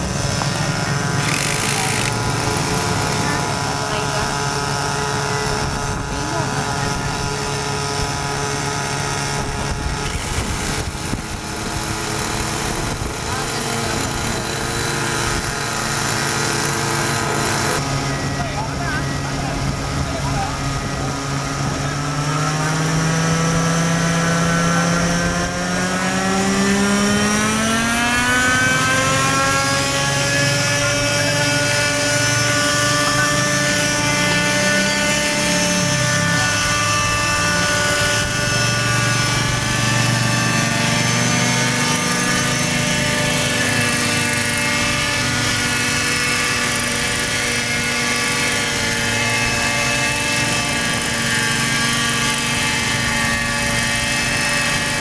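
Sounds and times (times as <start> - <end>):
model helicopter engine whine: 0.0 - 55.0.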